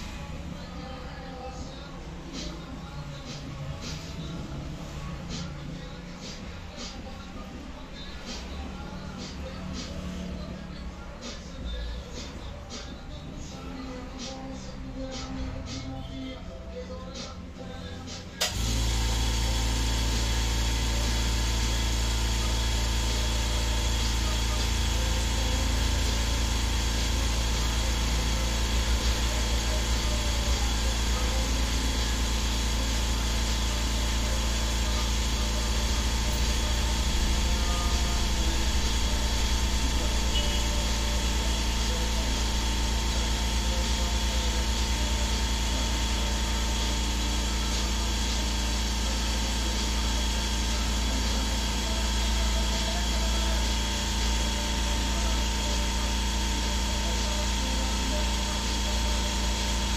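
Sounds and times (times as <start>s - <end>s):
steady machine hum: 0.0s - 59.9s.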